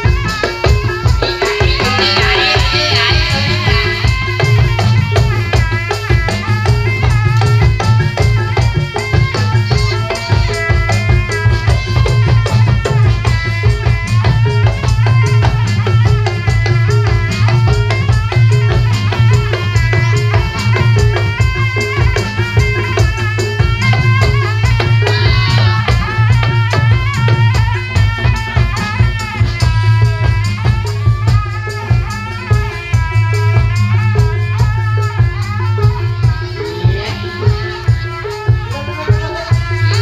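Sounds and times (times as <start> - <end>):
fast dense drumming: 0.0 - 40.0
wavering melody line: 0.0 - 40.0.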